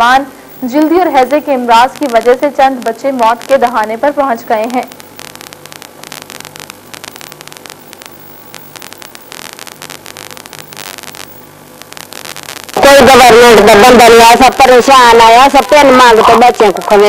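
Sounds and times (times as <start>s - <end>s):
crackling static: 0.0s - 17.0s
low electrical hum: 0.0s - 17.0s.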